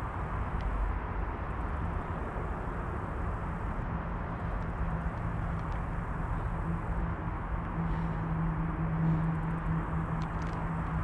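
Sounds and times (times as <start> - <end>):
faint hum: 0.0 - 11.0
low outdoor rumble: 0.0 - 11.0.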